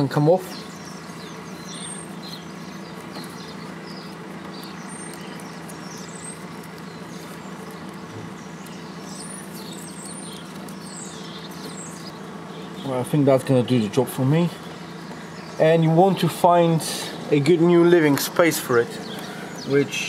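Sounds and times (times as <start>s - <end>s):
birds chirping: 0.0s - 20.0s
low mechanical hum: 0.0s - 20.0s.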